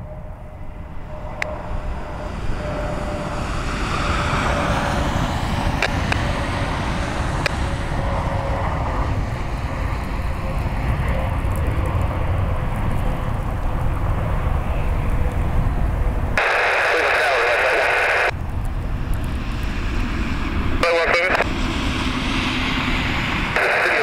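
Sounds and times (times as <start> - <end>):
jet airliner engines passing: 0.0 - 24.0.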